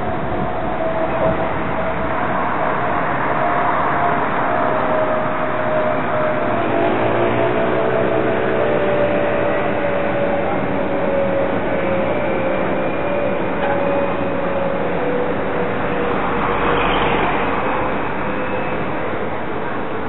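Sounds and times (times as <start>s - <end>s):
engine hum sinking in pitch: 0.0s - 20.0s
road traffic: 0.0s - 20.0s.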